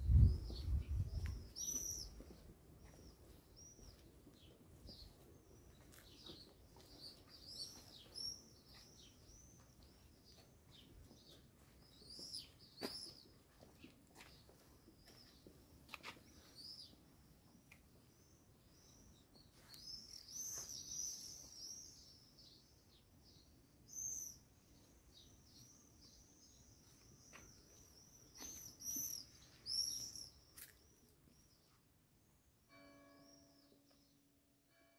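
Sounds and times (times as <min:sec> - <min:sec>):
small birds chirping and singing: 0:00.0 - 0:31.8.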